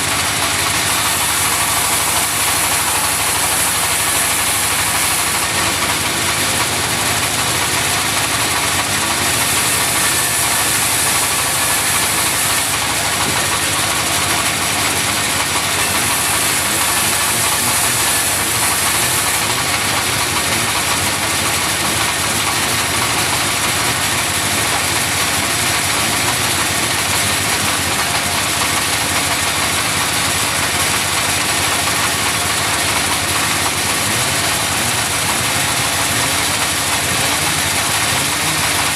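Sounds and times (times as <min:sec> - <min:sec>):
sawmill engine drone: 0:00.0 - 0:38.9.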